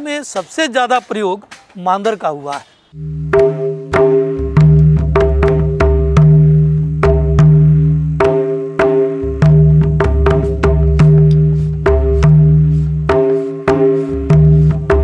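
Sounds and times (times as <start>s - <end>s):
ringing bass drum tone: 2.9s - 15.0s.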